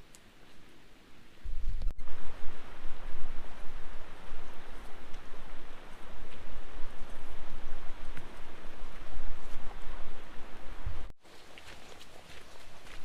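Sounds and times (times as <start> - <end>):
heavy rain and running water: 2.0 - 13.0.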